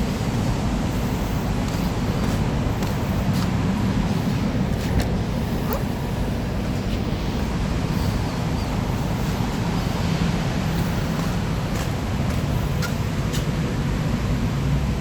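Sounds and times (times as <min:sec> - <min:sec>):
car running rumble: 0:00.0 - 0:15.0.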